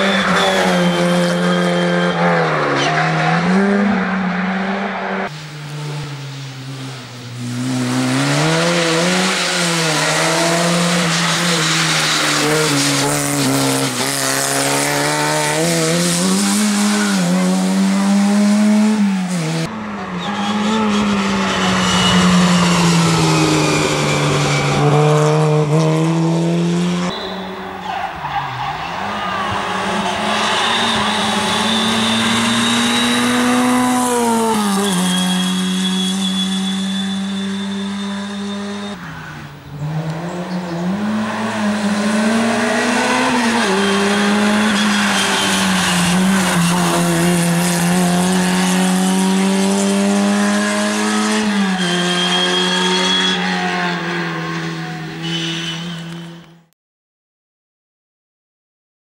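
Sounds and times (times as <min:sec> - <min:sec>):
rally car engine revving: 0:00.0 - 0:27.2, 0:27.8 - 0:56.4.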